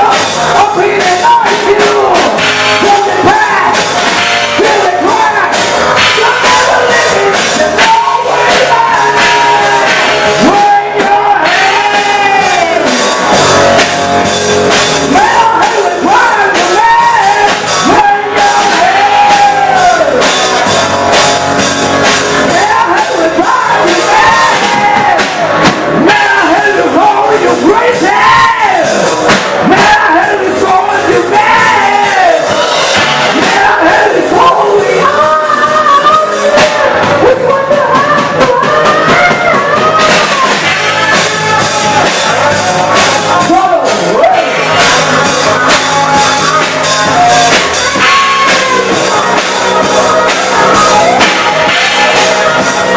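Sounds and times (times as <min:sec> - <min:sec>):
person singing long notes: 0:00.0 - 0:52.9
rock band playing: 0:00.0 - 0:52.9.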